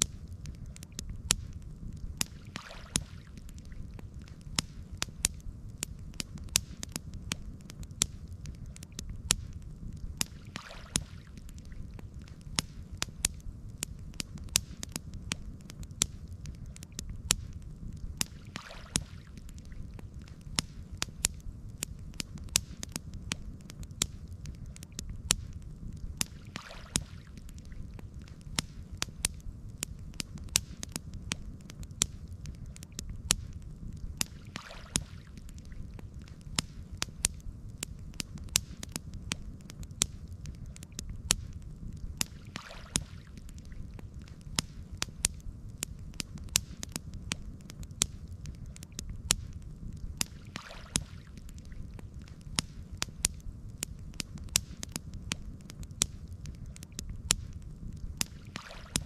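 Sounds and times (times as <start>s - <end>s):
campfire crackling and popping: 0.0s - 59.0s
low fire rumble: 0.0s - 59.0s.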